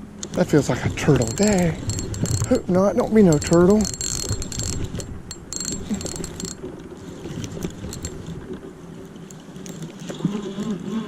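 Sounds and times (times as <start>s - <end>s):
fishing reel whirring and clicking: 1.0s - 10.2s.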